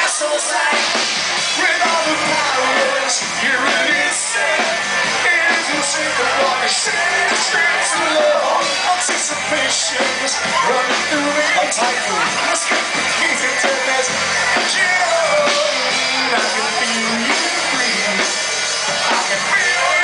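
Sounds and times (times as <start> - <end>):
live rock band playing: 0.0 - 20.0
man singing: 0.0 - 20.0.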